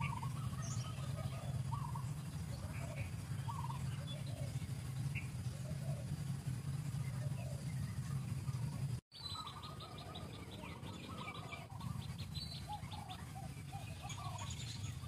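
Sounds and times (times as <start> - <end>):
birds chirping: 0.0 - 15.0
low rumble of ambience: 0.0 - 15.0.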